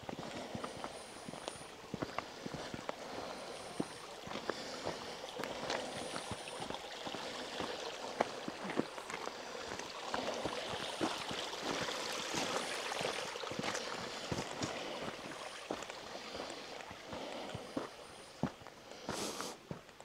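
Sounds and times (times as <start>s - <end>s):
stream water rushing: 0.0s - 19.8s.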